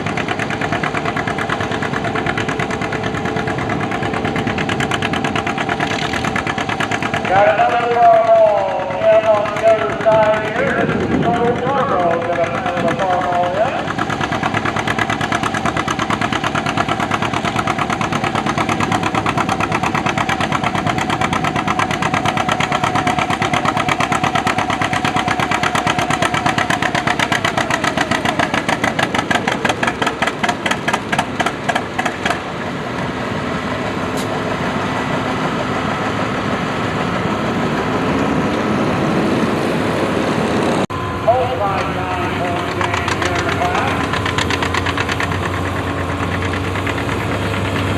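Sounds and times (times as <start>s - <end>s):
smooth engine revving: 0.0s - 47.9s
tractor engine labouring under load: 0.0s - 47.9s.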